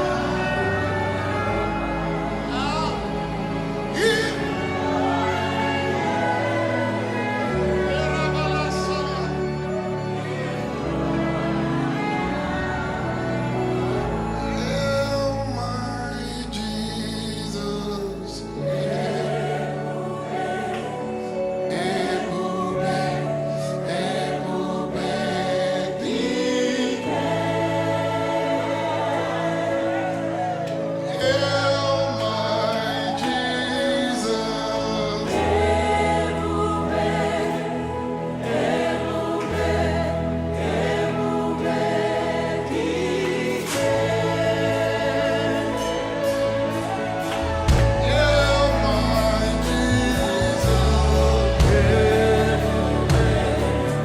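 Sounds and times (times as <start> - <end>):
voices singing over held chords: 0.0 - 54.0.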